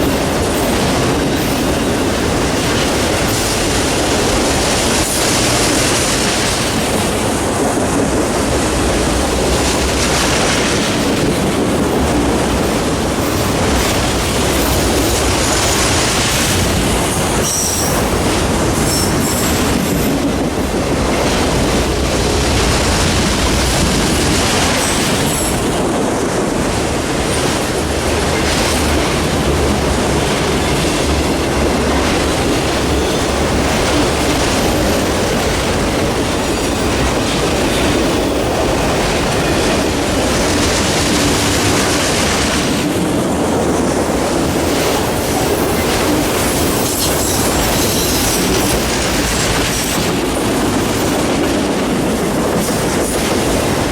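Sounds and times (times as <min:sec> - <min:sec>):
clickety-clack over rail joints: 0:00.0 - 0:53.9
train wheels rumbling on rails: 0:00.0 - 0:53.9.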